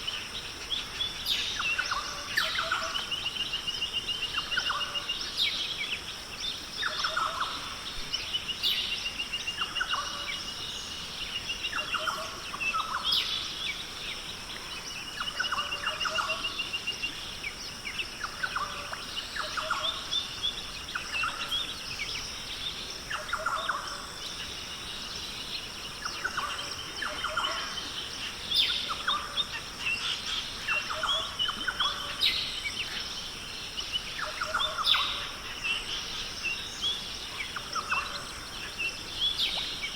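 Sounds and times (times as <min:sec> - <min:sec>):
birds calling and trilling: 0:00.1 - 0:39.9.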